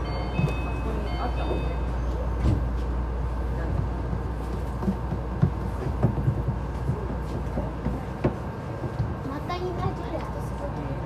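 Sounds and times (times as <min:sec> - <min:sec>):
train cabin low rumble: 0:00.0 - 0:11.0.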